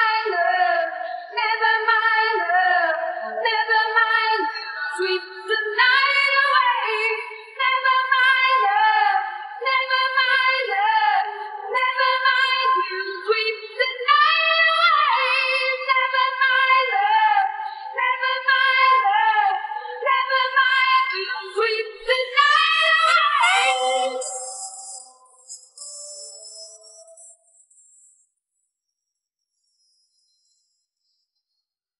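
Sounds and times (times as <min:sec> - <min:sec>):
high singing voice: 0:00.0 - 0:27.4.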